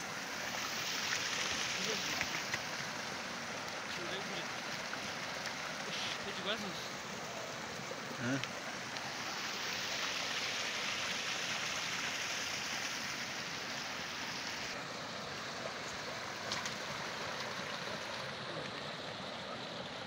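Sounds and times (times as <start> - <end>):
stream rushing over stones: 0.0 - 20.0.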